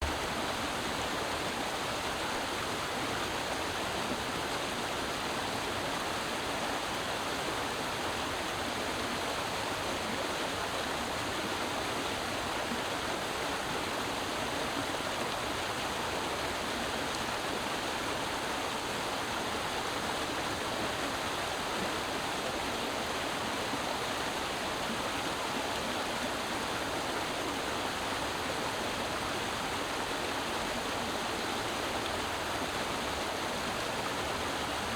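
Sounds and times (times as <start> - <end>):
creek water running over rocks: 0.0 - 34.9.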